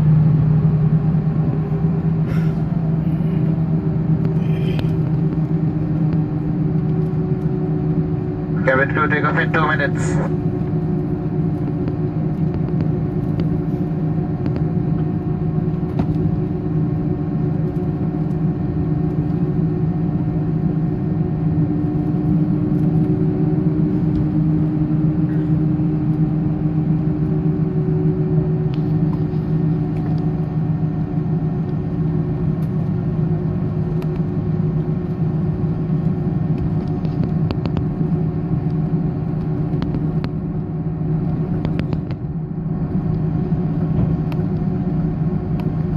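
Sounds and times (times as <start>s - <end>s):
jet engines low rumble in cabin: 0.0s - 45.9s.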